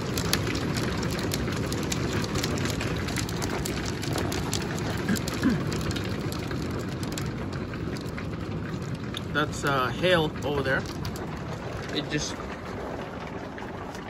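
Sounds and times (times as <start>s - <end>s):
hail pelting gravel and trees: 0.0s - 14.0s.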